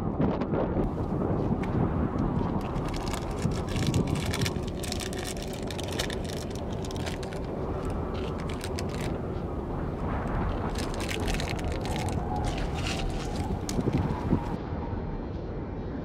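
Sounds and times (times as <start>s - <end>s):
steady low rumble: 0.0s - 16.0s
plastic pouch crinkling: 0.9s - 14.6s.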